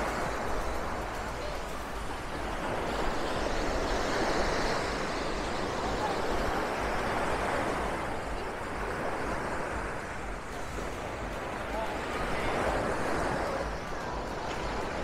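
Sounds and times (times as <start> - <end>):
waves breaking on shore: 0.0 - 15.0
wind rumble on microphone: 0.0 - 15.0.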